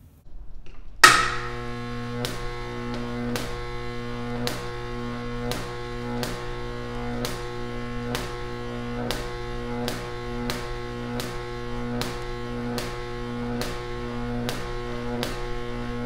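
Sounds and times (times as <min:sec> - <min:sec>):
electrical arc buzzing: 0:00.1 - 0:16.0
electric arc snapping: 0:00.4 - 0:16.0.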